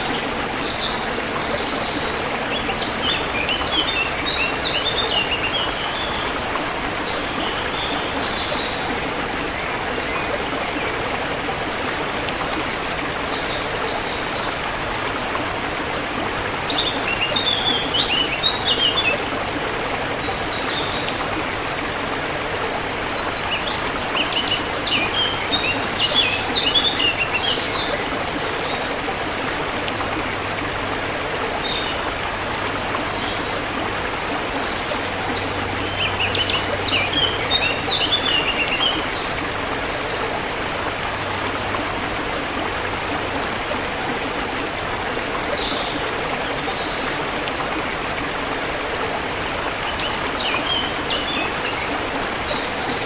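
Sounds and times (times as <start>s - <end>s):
stream running: 0.0s - 53.0s.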